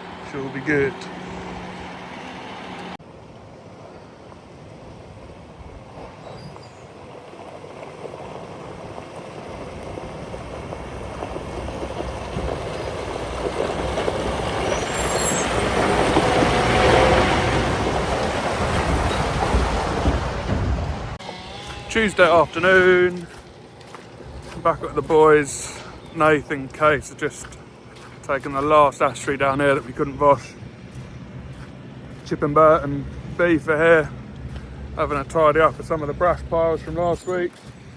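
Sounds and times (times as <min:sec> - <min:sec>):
heavy vehicle engine and road noise: 0:00.0 - 0:37.9.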